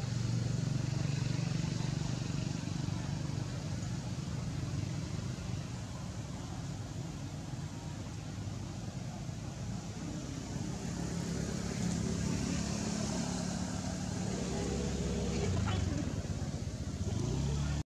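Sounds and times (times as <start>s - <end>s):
vehicle engine rumbling: 0.0s - 17.8s.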